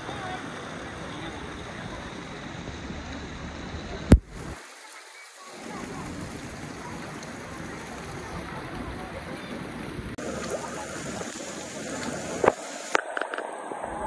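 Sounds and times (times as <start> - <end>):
murmur of voices: 0.0 - 12.8
water splashing from fountains: 0.0 - 14.0.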